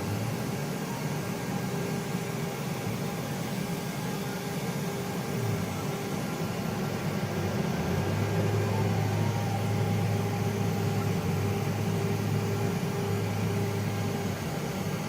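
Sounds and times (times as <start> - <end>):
printer fan hum: 0.0 - 15.0
printer motors whining: 0.0 - 15.0.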